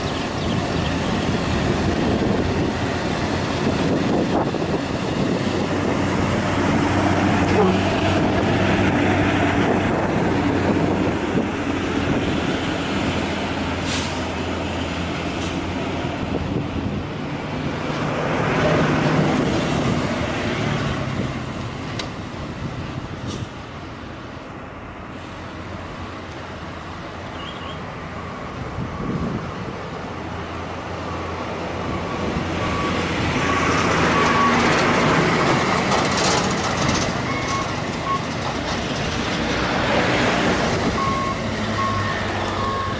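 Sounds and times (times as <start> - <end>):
truck diesel engines labouring: 0.0 - 42.9.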